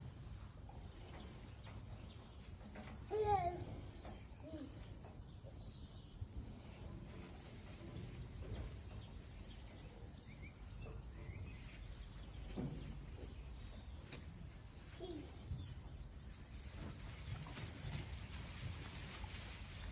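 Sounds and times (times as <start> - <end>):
low background noise: 0.0 - 19.9.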